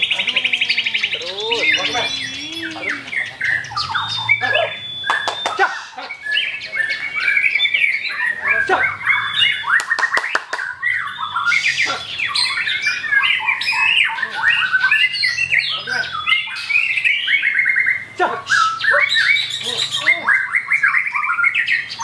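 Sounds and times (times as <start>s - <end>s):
bird singing whistles and trills: 0.0s - 22.0s.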